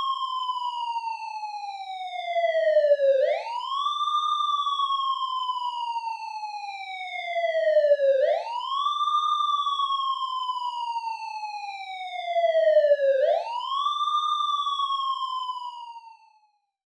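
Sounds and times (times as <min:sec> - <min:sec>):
warning siren wailing: 0:00.0 - 0:16.4.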